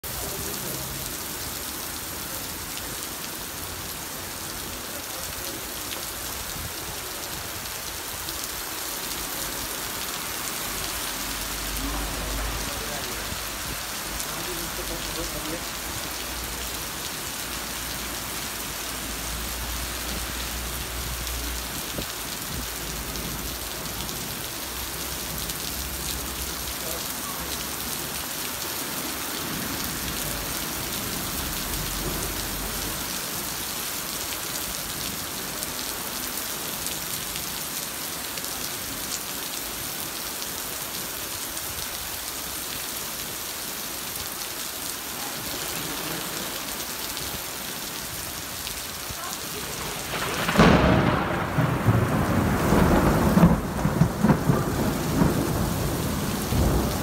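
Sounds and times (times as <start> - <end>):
heavy rain on pavement: 0.0 - 57.0.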